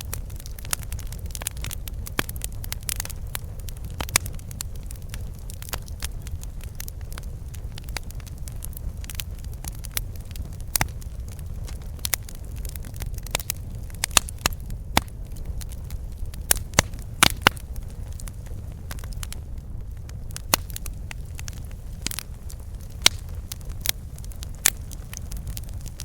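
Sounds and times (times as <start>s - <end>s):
burning wood crackling and popping: 0.0s - 26.0s
low rumble of flames: 0.0s - 26.0s.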